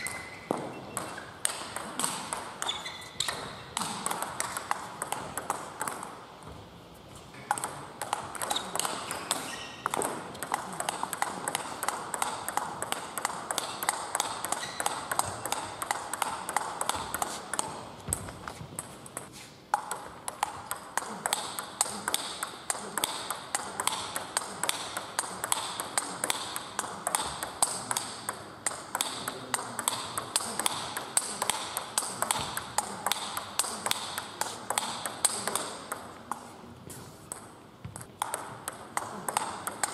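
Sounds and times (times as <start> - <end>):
table tennis ball clicks: 0.0 - 6.2, 7.5 - 36.6, 37.2 - 39.9.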